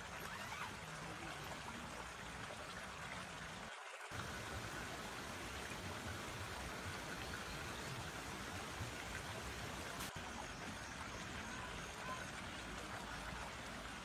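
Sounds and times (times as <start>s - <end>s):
forest stream flowing: 0.0s - 14.0s.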